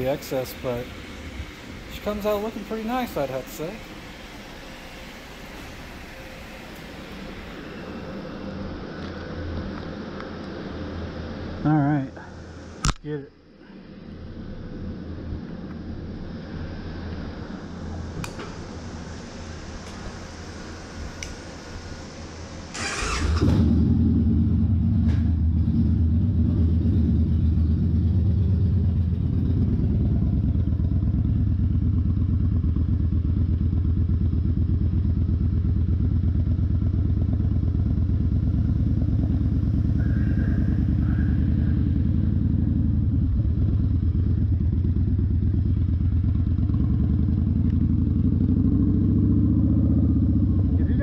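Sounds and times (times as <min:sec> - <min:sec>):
motorcycle engine: 0:00.0 - 0:12.8, 0:13.7 - 0:51.0.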